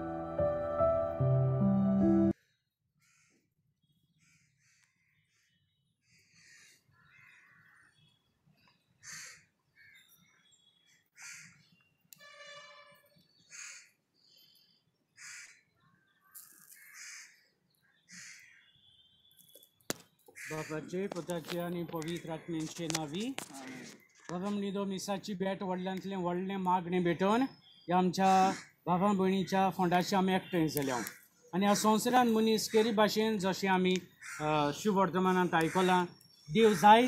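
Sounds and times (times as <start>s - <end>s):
faint crows cawing: 2.4s - 11.9s, 12.6s - 14.4s, 15.0s - 24.6s, 27.6s - 37.0s.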